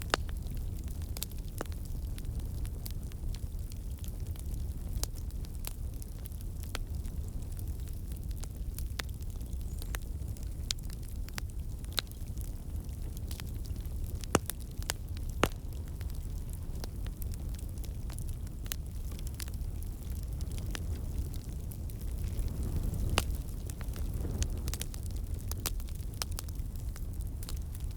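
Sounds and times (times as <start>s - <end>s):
fire flames rumbling: 0.0s - 27.9s
fire pops and snaps: 0.0s - 27.9s.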